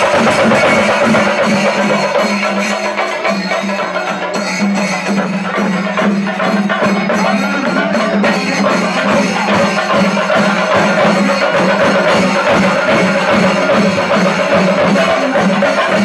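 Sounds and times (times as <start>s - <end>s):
fast dense drumming: 0.0s - 16.0s
hand cymbals: 0.0s - 16.0s.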